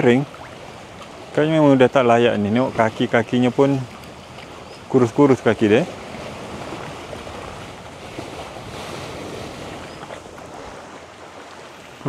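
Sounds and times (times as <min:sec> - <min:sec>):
sea waves rushing: 0:00.0 - 0:12.0
wind: 0:00.0 - 0:12.0.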